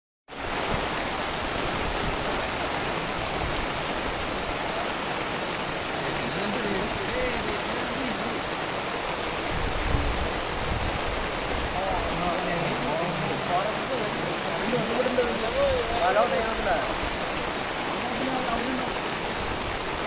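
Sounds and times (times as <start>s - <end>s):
heavy rain on water: 0.3s - 20.0s.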